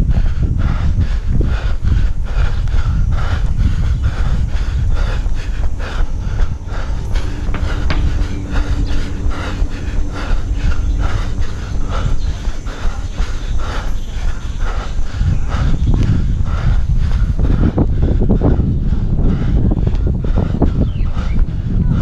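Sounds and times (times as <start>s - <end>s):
running footsteps on brick: 0.0s - 8.2s, 11.1s - 22.0s
wind rumble on microphone: 0.0s - 22.0s.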